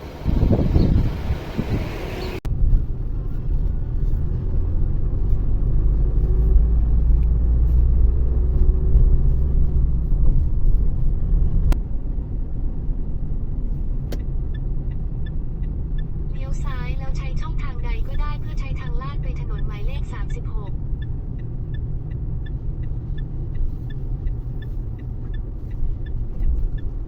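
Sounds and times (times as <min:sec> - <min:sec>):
car interior engine and road rumble: 0:00.0 - 0:27.0.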